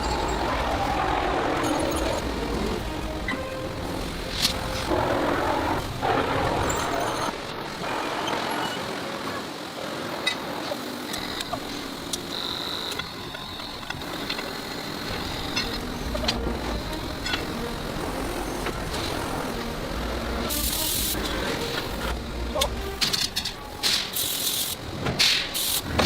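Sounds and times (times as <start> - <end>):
factory machinery rumble and hiss: 0.0 - 26.0.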